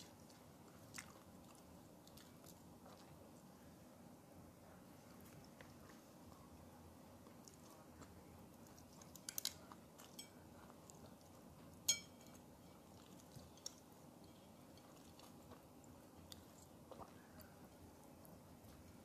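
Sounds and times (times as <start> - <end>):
person chewing: 0.0 - 3.5, 5.2 - 19.0.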